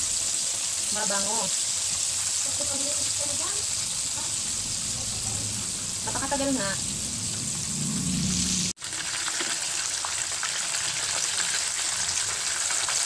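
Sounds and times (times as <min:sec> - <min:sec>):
chicken frying in oil: 0:00.0 - 0:13.0.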